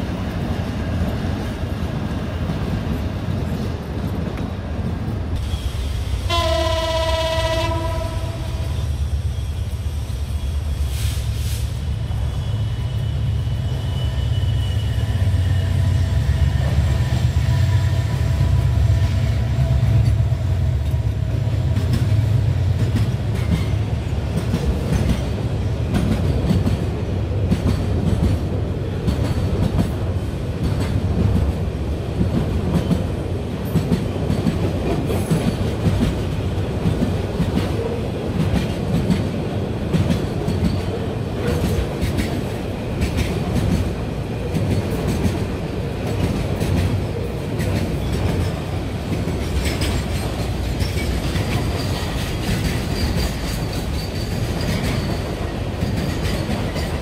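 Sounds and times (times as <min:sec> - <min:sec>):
diesel locomotive engine drone: 0:00.0 - 0:57.0
train rumble: 0:00.0 - 0:57.0.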